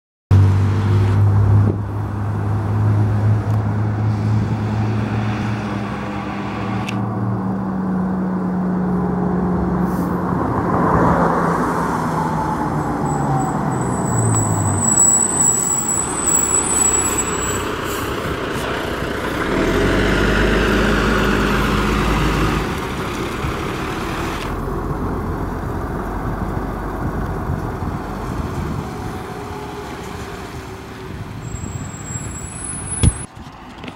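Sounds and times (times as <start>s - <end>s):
fire engine diesel engines: 0.3s - 33.9s
passing traffic: 0.3s - 33.9s.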